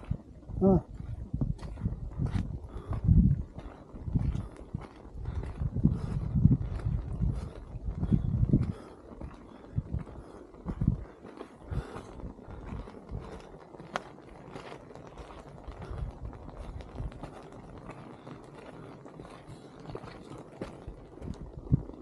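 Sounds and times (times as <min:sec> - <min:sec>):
footsteps on a dirt trail: 0:00.0 - 0:22.0
stone clicking underfoot: 0:00.0 - 0:22.0.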